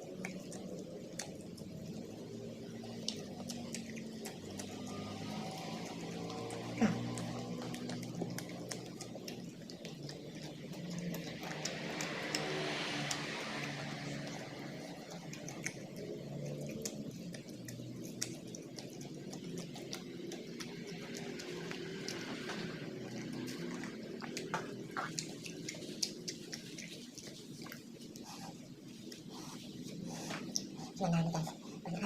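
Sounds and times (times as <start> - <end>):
person chewing with mouth clicks: 0.0 - 31.8.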